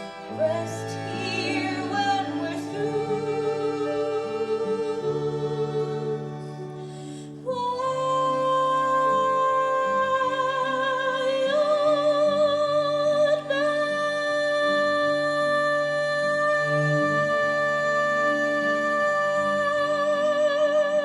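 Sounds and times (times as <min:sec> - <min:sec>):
woman singing with vibrato: 0:00.0 - 0:21.0.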